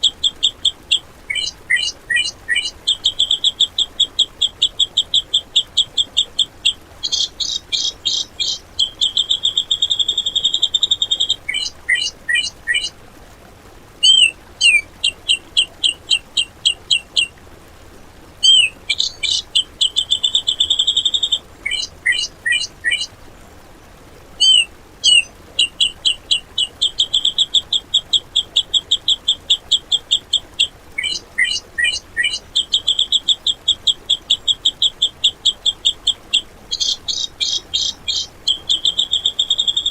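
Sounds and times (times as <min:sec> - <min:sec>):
songbird chirps and trills: 0:00.0 - 0:13.0, 0:14.0 - 0:17.4, 0:18.3 - 0:23.6, 0:24.3 - 0:39.9.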